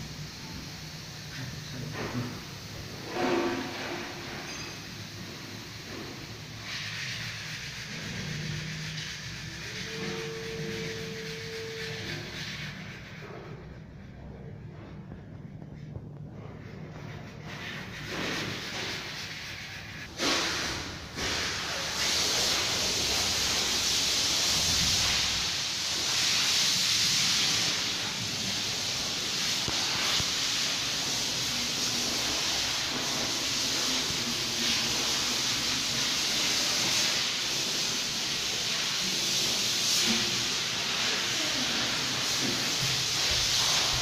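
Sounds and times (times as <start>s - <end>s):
high hiss of rushing air: 0.0s - 13.7s, 16.4s - 44.0s.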